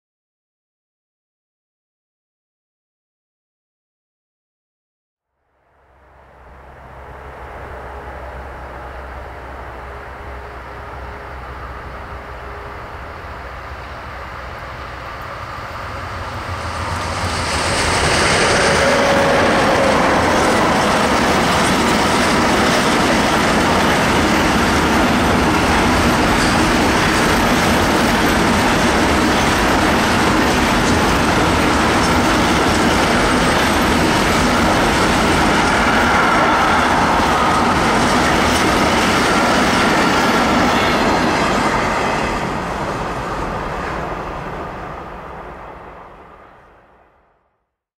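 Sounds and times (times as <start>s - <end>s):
freight train wheels rolling on rails: 6.0s - 47.0s.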